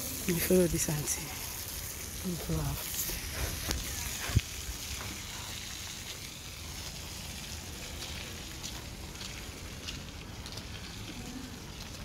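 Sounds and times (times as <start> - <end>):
footsteps on wet dirt road: 2.3 - 12.0.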